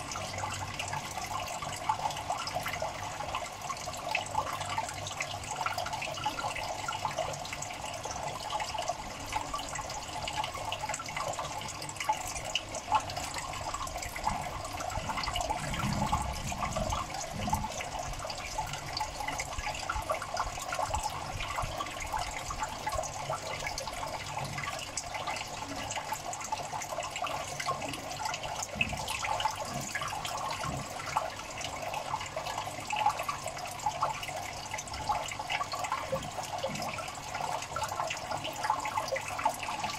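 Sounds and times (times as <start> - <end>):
water bubbling and trickling: 0.0 - 39.9.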